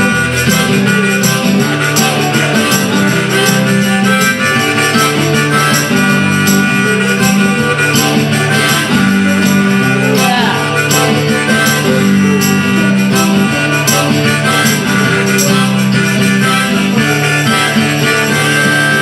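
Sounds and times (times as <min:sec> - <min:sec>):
keyboard: 0:00.0 - 0:19.0
strummed acoustic guitars: 0:00.0 - 0:19.0.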